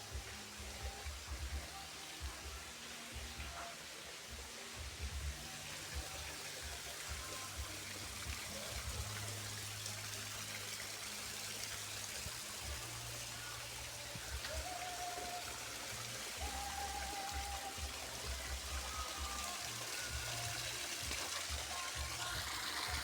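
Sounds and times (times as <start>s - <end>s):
water rushing and trickling: 0.0s - 23.0s.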